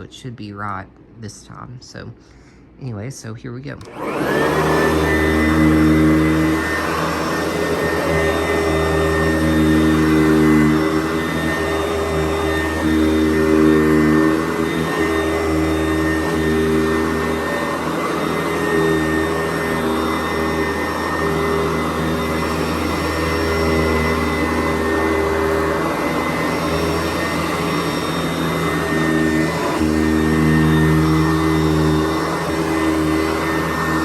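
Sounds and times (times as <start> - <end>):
vacuum cleaner running: 3.8 - 34.0.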